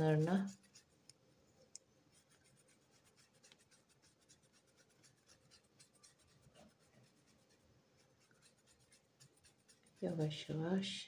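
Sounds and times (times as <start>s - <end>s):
paintbrush bristles scratching: 0.0s - 1.2s, 2.0s - 10.7s.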